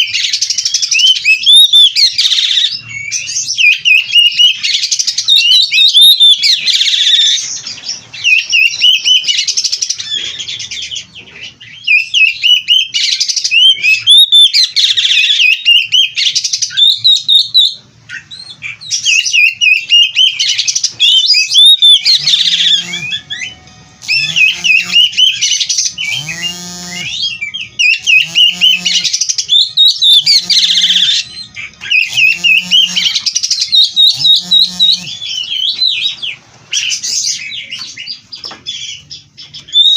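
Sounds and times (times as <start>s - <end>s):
bird warbling song: 0.0s - 39.9s
lower repeated bird call: 0.0s - 39.9s.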